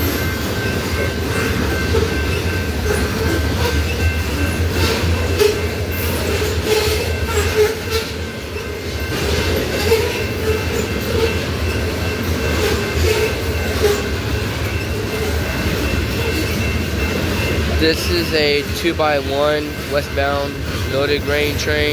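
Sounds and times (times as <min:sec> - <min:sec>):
train rumble: 0:00.0 - 0:21.9
wheels clacking over rail joints: 0:00.0 - 0:21.9.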